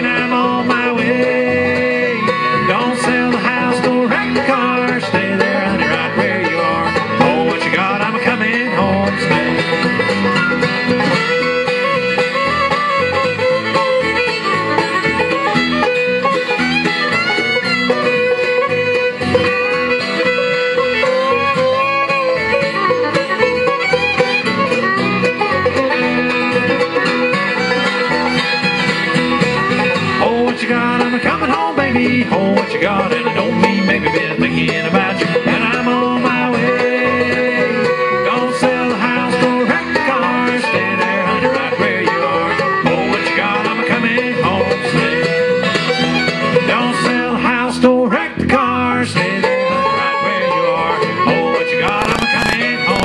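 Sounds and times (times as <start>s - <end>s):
bluegrass band playing: 0.0s - 53.0s.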